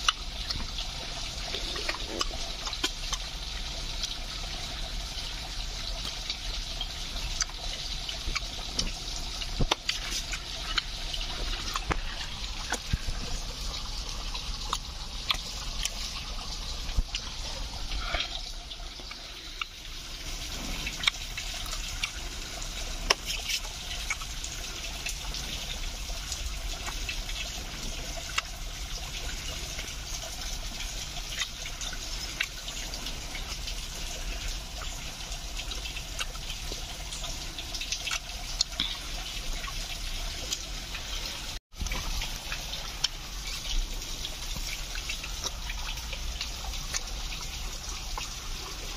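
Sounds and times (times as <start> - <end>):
water trickling: 0.0 - 48.9.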